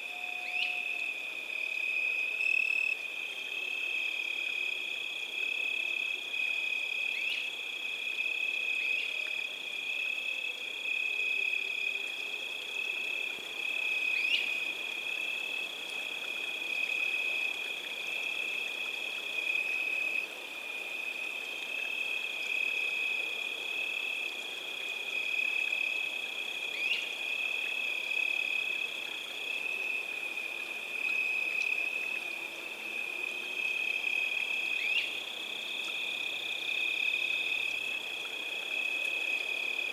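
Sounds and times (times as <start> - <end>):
chorus of trilling frogs or insects: 0.0 - 39.9.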